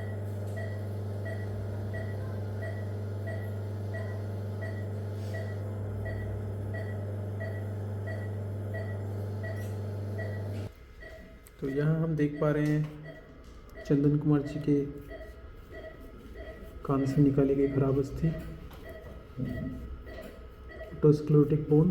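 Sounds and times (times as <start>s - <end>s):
low electrical hum: 0.0s - 21.9s
patient monitor beeping: 0.0s - 21.9s.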